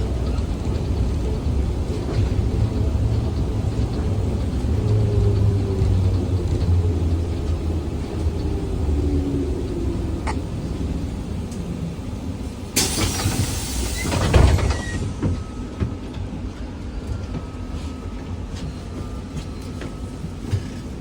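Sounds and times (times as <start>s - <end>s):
trolleybus rumbling: 0.0s - 21.0s.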